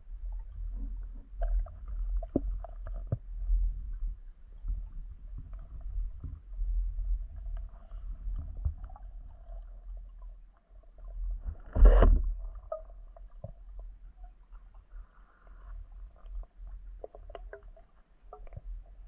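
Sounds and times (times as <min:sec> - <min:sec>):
muffled underwater water movement: 0:00.0 - 0:19.0.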